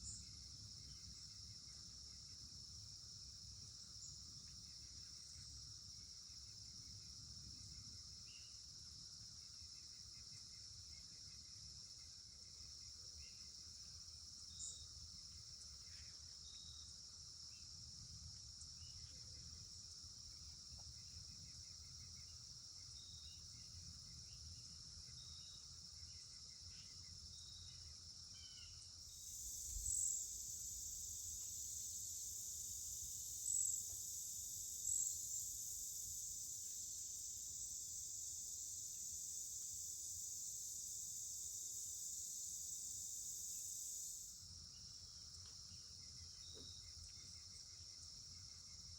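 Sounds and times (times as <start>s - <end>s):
crickets and insects chorus: 0.0s - 48.9s
short insect chirps: 9.4s - 48.9s.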